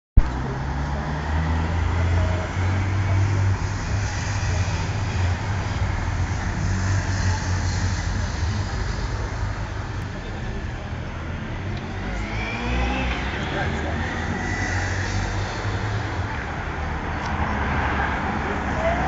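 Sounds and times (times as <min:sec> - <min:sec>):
vehicle engines rumbling: 0:00.2 - 0:19.0.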